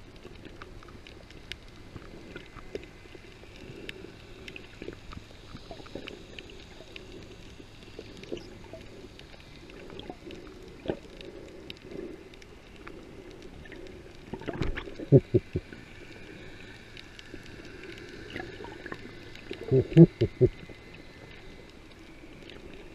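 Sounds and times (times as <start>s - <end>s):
muffled underwater wash: 0.0s - 22.9s
faint clicks: 0.1s - 22.9s.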